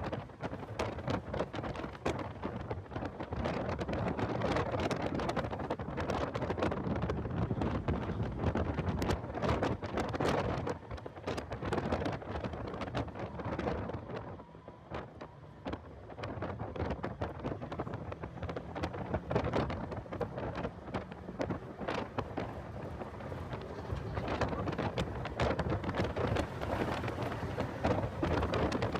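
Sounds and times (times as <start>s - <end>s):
car running rumble: 0.0s - 28.9s
wind buffeting microphone: 0.0s - 28.9s.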